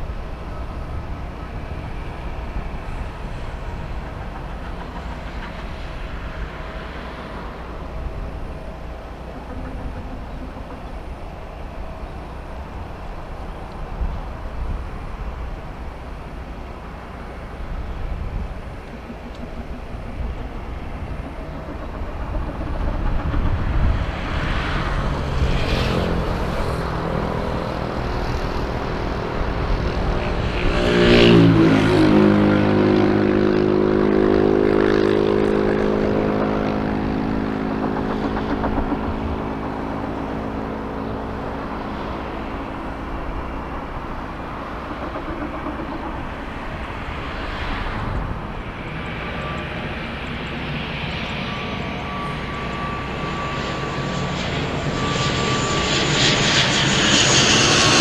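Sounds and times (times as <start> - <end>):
airliner passing: 0.0 - 58.0.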